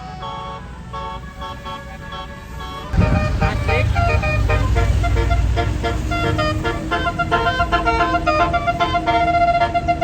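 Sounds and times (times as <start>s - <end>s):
bus musical horn melody: 0.0s - 10.0s
bus engine running: 0.2s - 10.0s.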